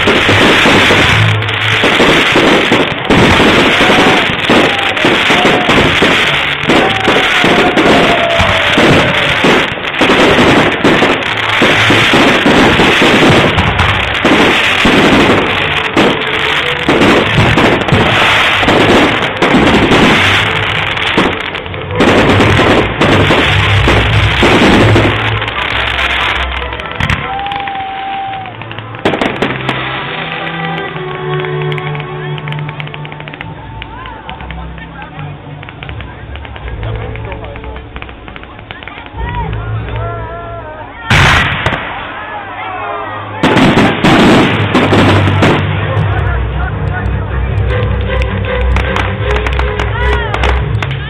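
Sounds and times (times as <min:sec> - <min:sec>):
fireworks bursting and crackling: 0:00.0 - 0:51.0.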